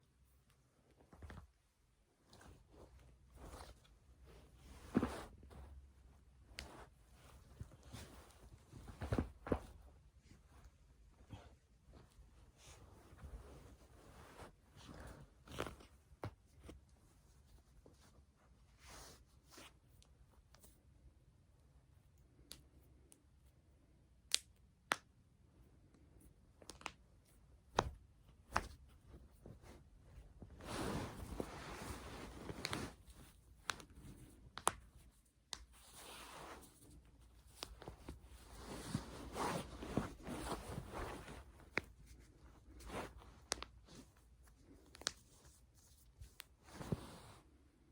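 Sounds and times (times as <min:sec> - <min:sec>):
rustling: 0:00.4 - 0:19.8, 0:27.8 - 0:47.9.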